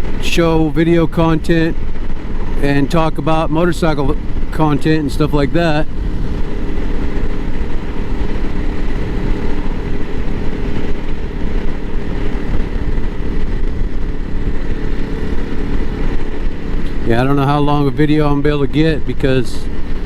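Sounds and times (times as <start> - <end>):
motorcycle engine cruising: 0.0 - 20.0
rush of air: 0.0 - 20.0.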